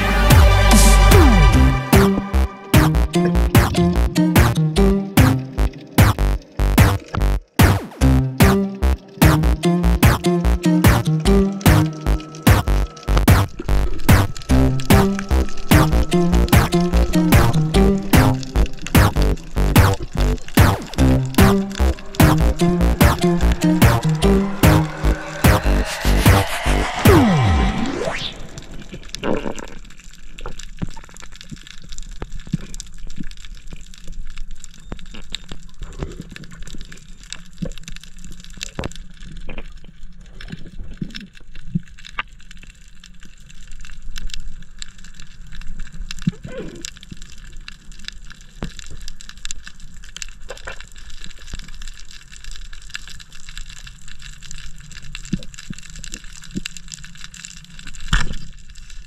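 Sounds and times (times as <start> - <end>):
crackling clicks: 2.7 - 59.0
underwater water noise: 11.4 - 59.0.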